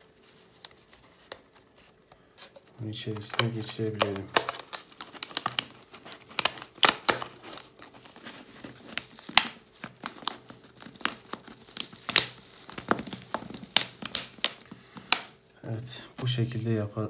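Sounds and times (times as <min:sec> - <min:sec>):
plastic bottle crinkling: 0:00.0 - 0:16.6.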